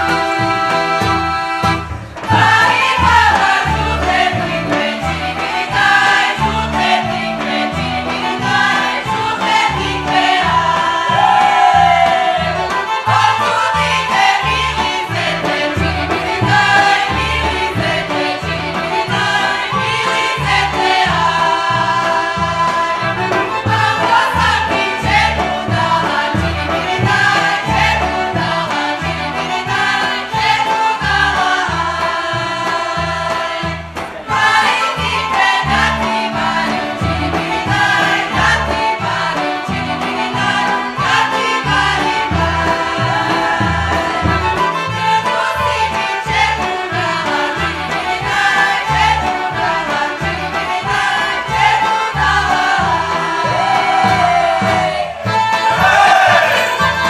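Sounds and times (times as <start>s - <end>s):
instrumental accompaniment with beat: 0.0s - 57.0s
women's choir singing: 0.0s - 57.0s.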